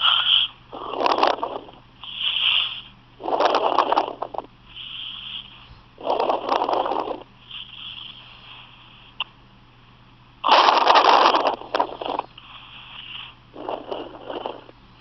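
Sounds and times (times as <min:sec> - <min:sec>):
person breathing noisily: 0:00.0 - 0:09.2, 0:11.4 - 0:15.0.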